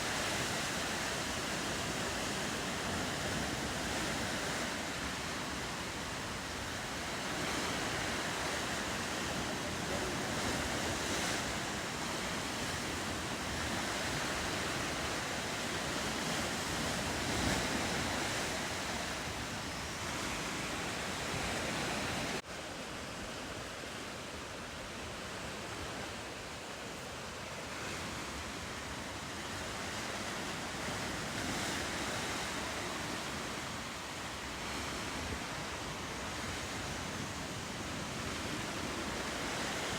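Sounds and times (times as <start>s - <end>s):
ocean surf on rocky coast: 0.0s - 39.9s.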